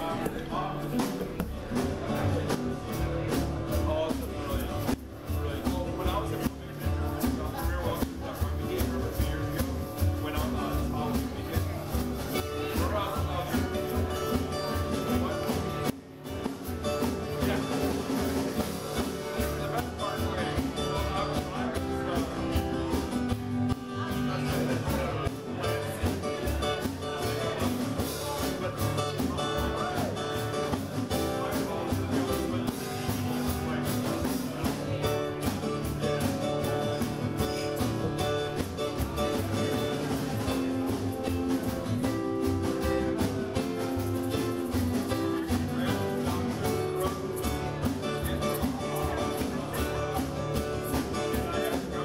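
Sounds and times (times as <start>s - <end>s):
steady drum beat: 0.0s - 52.0s
strummed acoustic guitars: 0.0s - 52.0s.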